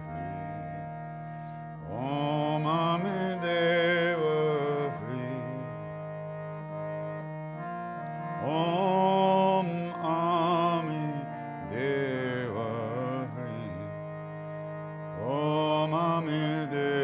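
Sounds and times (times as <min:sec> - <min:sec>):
harmonium drone: 0:00.0 - 0:17.0.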